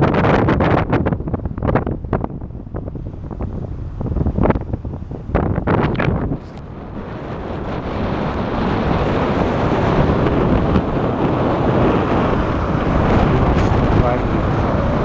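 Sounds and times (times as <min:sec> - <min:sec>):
rough surf: 0:00.0 - 0:15.0
wind buffeting microphone: 0:00.0 - 0:15.0.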